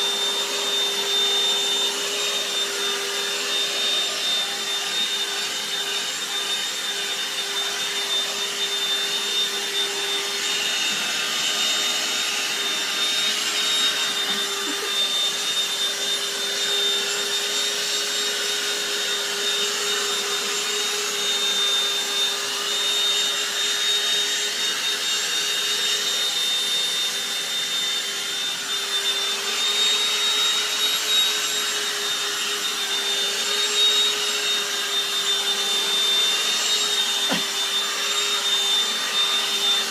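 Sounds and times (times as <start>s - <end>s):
handheld vacuum whining: 0.0s - 39.9s.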